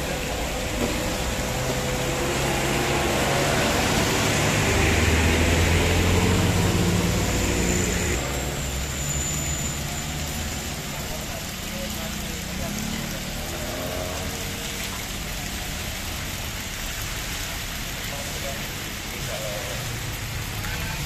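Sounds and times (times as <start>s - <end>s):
tyres hissing on wet road: 0.0s - 21.0s
vehicle engines passing: 0.0s - 21.0s.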